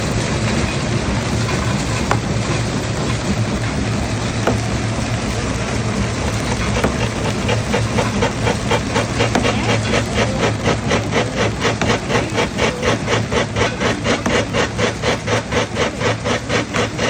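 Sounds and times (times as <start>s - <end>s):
rock-crushing machinery rumbling: 0.0s - 17.0s.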